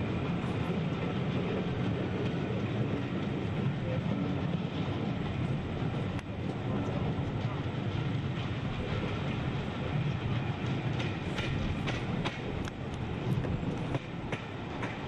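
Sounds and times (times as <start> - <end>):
clickety-clack over rail joints: 0.0 - 15.0
train wheels rumbling on rail: 0.0 - 15.0.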